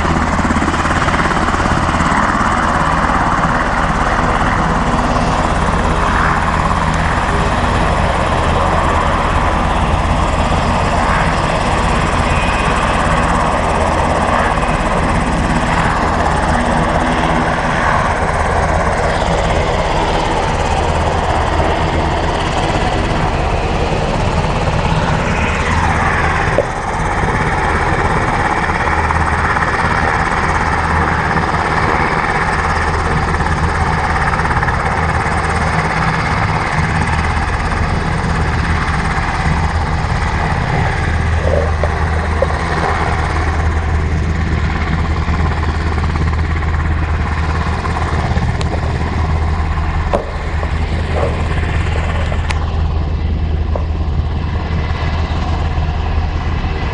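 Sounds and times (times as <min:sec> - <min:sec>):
helicopter rotors and engines: 0:00.0 - 0:56.9.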